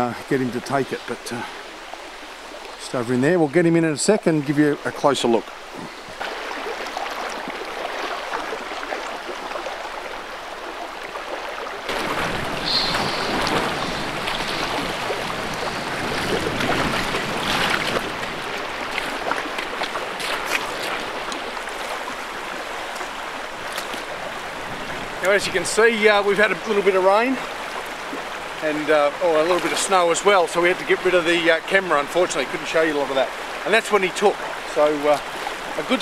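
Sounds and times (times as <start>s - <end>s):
creek water rushing: 0.0s - 36.0s.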